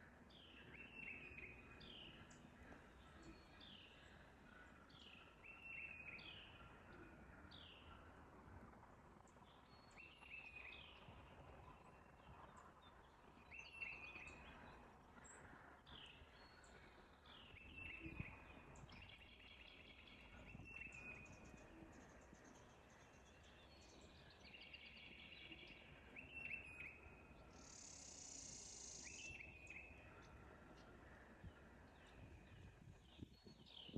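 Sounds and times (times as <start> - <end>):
faint bird calls: 0.0 - 33.0
low steady background noise: 0.0 - 33.9.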